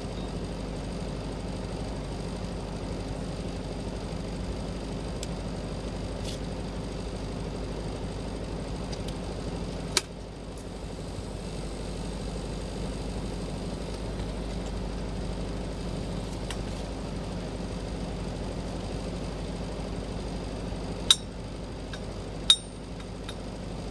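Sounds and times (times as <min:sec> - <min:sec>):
welding equipment humming: 0:00.0 - 0:23.9.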